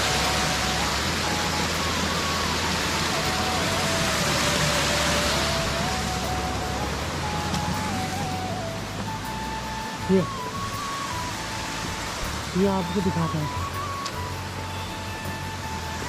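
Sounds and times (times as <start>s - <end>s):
faint melody: 0.0s - 16.0s
river water rushing: 0.0s - 16.0s.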